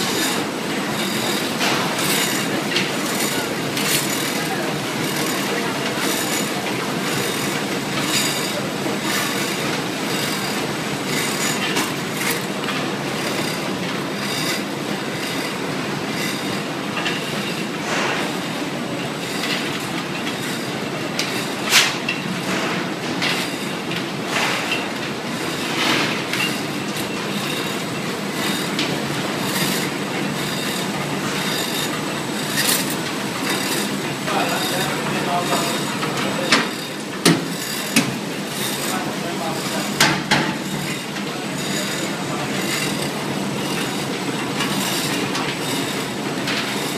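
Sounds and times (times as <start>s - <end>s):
packaging machinery clattering: 0.0s - 46.9s.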